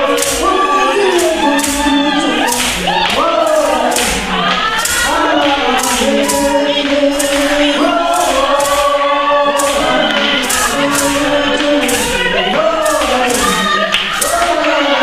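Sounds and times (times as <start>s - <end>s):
rhythmic handclaps: 0.0s - 15.0s
young voices singing in chorus: 0.0s - 15.0s.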